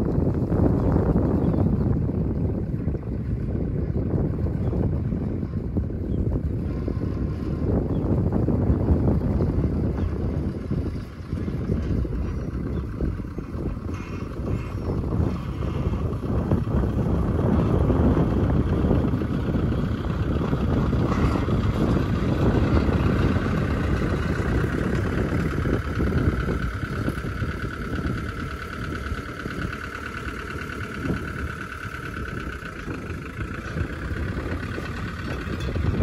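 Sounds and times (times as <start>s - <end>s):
truck engine running: 0.0s - 36.0s
wind rumbling on microphone: 0.0s - 36.0s.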